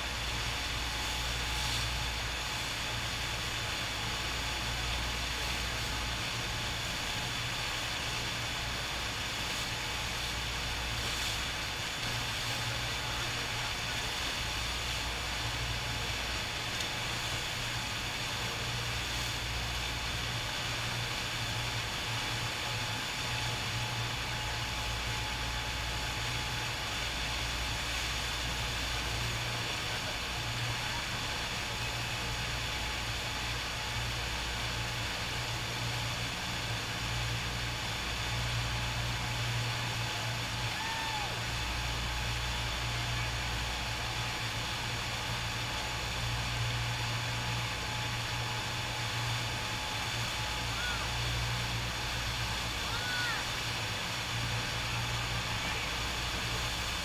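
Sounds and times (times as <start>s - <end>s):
water rushing and churning: 0.0s - 57.0s.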